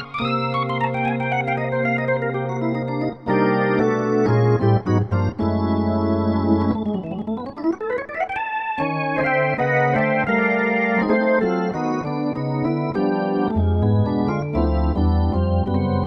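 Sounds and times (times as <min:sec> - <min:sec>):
synthesizer organ chords: 0:00.0 - 0:16.0.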